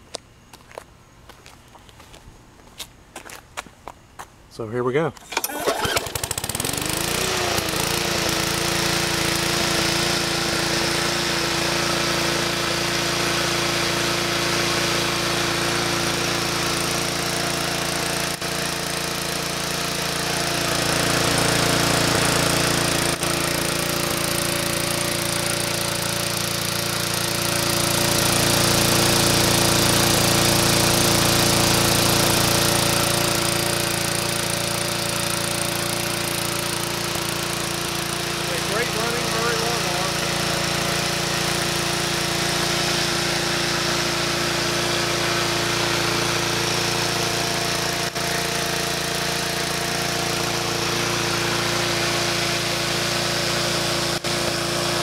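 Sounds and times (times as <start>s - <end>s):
lawn mower engine running: 5.2s - 55.0s.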